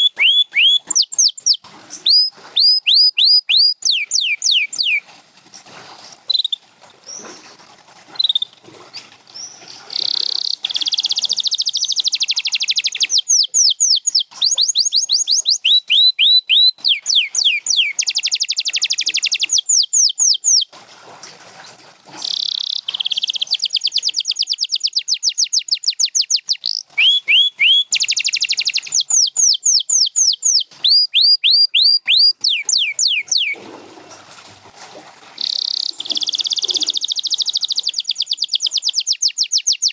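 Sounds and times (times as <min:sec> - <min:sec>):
canary singing: 0:00.0 - 0:05.0, 0:09.4 - 0:20.7, 0:22.2 - 0:33.6, 0:35.4 - 0:39.9
bird chips: 0:00.1 - 0:05.0, 0:08.2 - 0:20.6, 0:22.2 - 0:33.6, 0:35.4 - 0:39.9.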